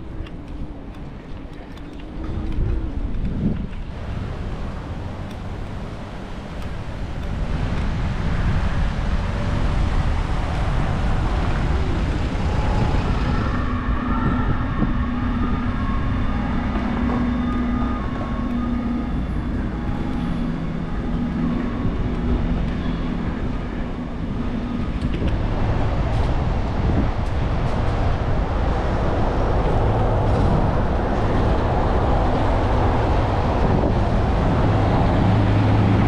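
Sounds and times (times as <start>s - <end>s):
city traffic: 0.0s - 36.0s
wind on microphone: 0.0s - 36.0s.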